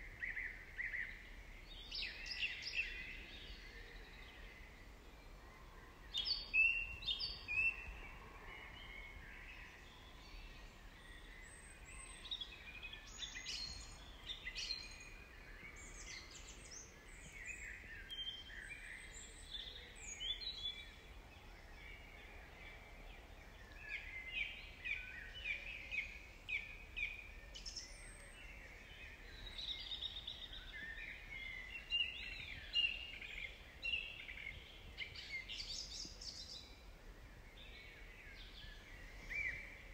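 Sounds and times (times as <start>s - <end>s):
birds chirping and trilling: 0.2s - 39.9s.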